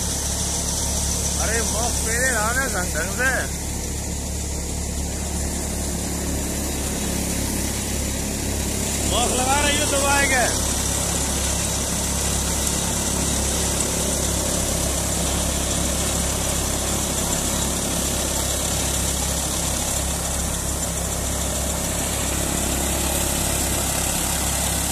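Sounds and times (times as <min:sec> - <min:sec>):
threshing machine drone: 0:00.0 - 0:24.9.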